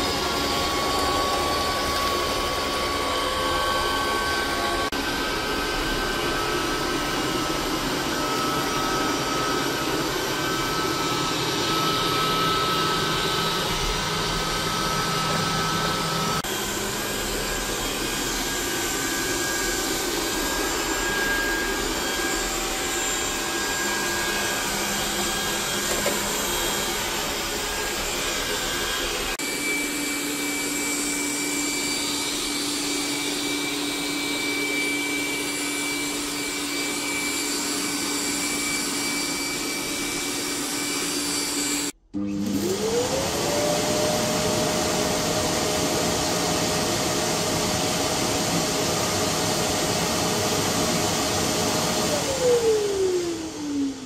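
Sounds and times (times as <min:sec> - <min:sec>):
dust collection dock motor whine: 0:00.0 - 0:54.0
robot vacuum running: 0:00.0 - 0:54.0.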